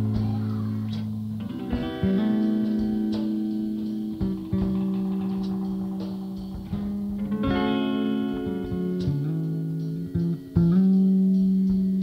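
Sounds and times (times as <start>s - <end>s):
bass guitar: 0.0s - 12.0s
electric guitar notes ringing: 0.0s - 12.0s.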